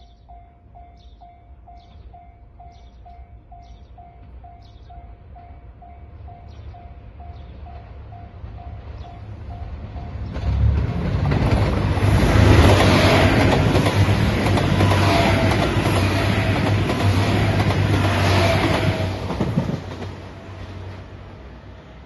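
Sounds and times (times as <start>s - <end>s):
diesel train rumbling past: 0.0s - 22.0s.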